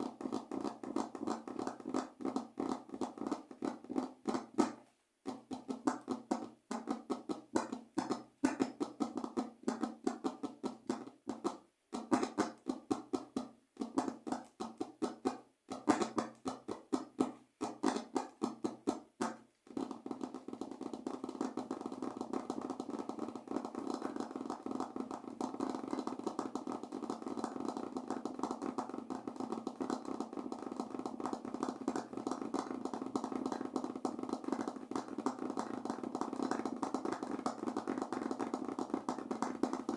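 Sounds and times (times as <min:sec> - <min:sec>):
fingers tapping on surface: 0:00.0 - 0:39.9.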